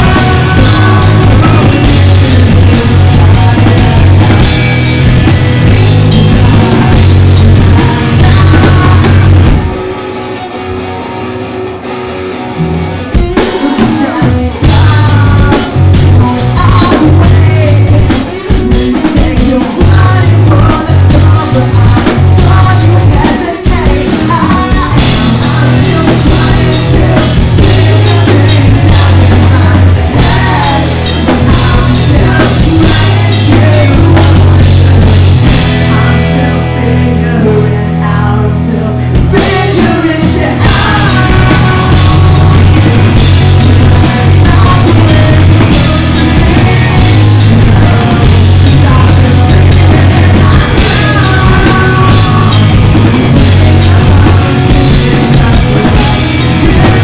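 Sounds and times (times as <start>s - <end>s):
man singing: 0.0s - 9.8s, 13.2s - 57.0s
live rock band playing: 0.0s - 57.0s.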